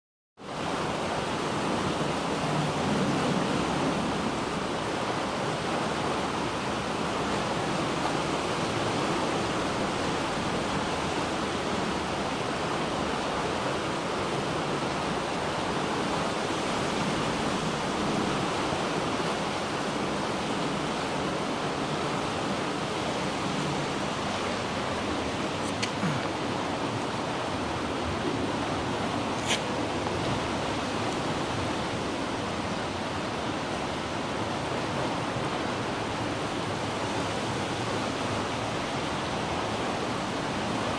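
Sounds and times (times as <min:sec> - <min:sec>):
floodwater rushing: 0:00.4 - 0:40.9.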